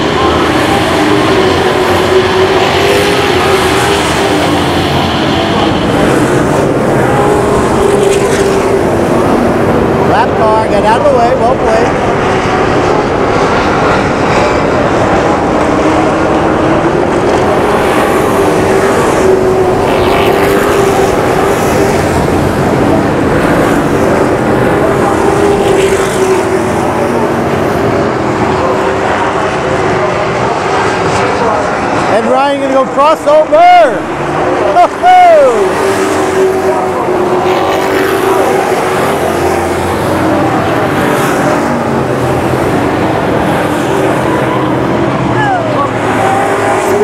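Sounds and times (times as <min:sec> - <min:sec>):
race truck engines droning: 0:00.0 - 0:47.0.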